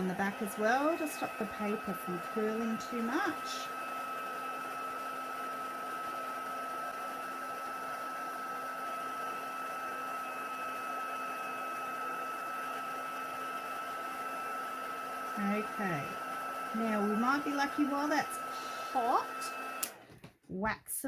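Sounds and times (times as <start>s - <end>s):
heat tool fan whirring: 0.0s - 20.3s.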